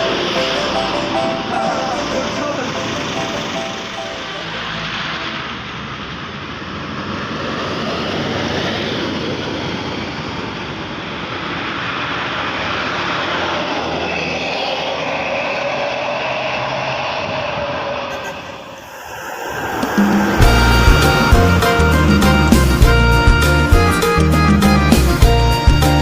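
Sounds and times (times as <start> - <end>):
bus driving past: 0.0 - 26.0.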